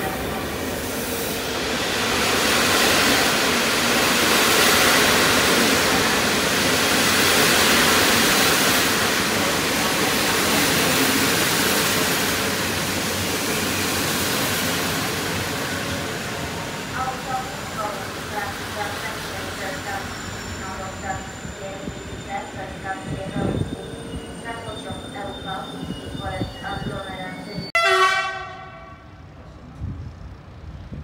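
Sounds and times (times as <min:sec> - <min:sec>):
train wheels rushing on rails: 0:00.0 - 0:25.1.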